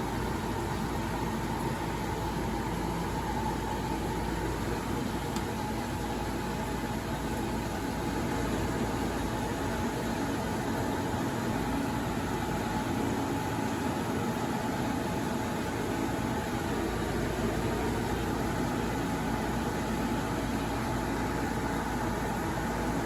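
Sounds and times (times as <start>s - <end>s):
dryer machine humming: 0.0s - 23.0s.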